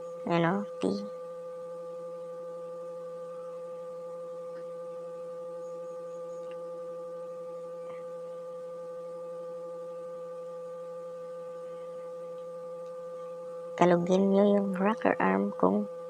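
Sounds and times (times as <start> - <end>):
steady multi-tone hum: 0.0 - 16.0.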